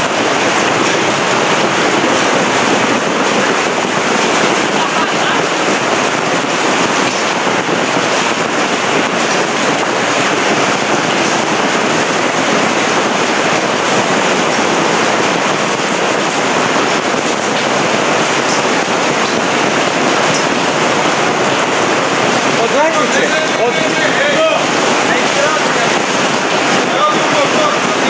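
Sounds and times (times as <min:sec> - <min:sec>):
hail and rain on tent canopy: 0:00.0 - 0:28.0.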